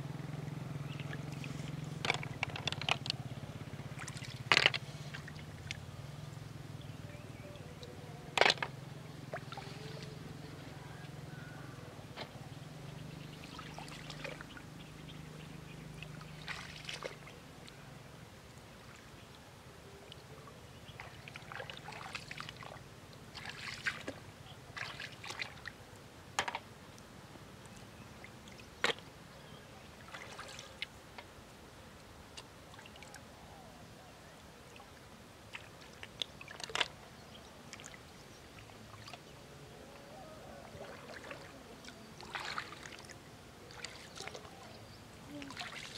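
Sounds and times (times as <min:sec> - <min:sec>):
river water sloshing and trickling: 0:00.0 - 0:45.9.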